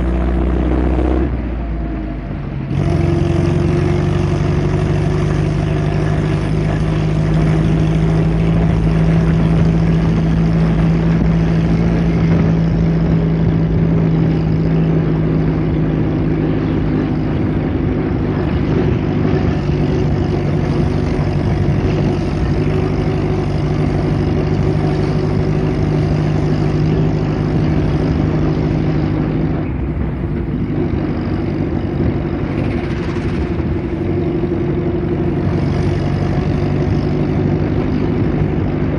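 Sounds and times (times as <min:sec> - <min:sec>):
vintage car engine running: 0:00.0 - 0:38.9.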